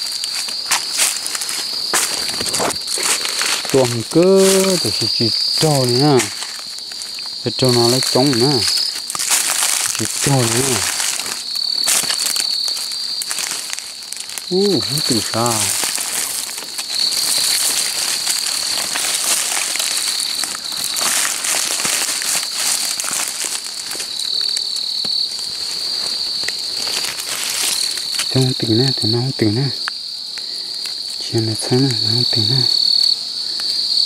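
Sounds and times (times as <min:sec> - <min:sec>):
crickets trilling: 0:00.0 - 0:34.0
rustling of dry leaves: 0:00.0 - 0:34.0.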